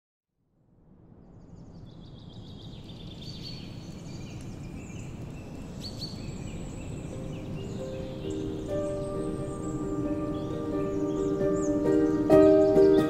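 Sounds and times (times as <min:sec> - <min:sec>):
birds chirping: 0:01.4 - 0:13.0.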